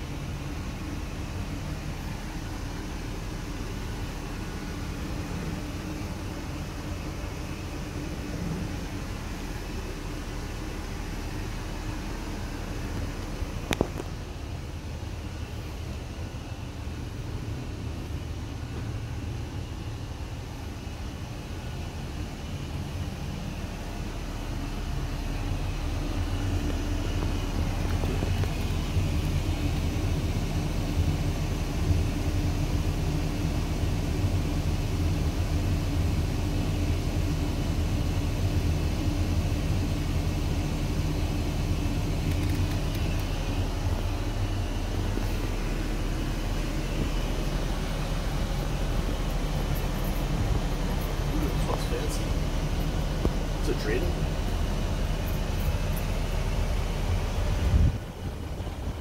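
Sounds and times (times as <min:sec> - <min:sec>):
low engine drone: 0:00.0 - 0:59.0.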